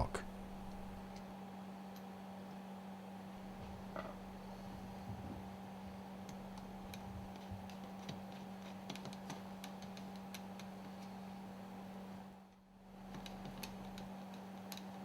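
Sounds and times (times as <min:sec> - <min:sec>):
steady low hum: 0:00.0 - 0:08.7, 0:09.4 - 0:14.3.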